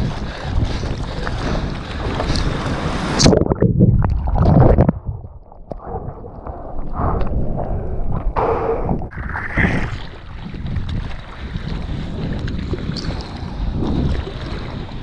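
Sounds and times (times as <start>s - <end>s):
muffled water thuds and gurgling: 0.0s - 15.0s.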